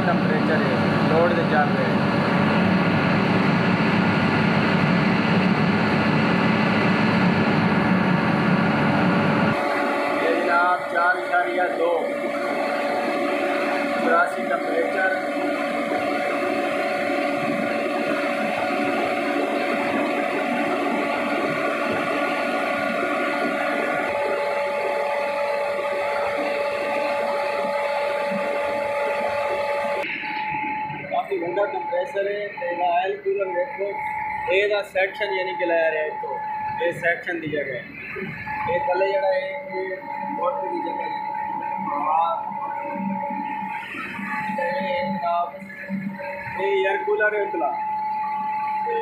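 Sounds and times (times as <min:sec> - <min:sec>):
air compressors droning: 0:00.0 - 0:49.0
faint whining tones: 0:00.2 - 0:49.0.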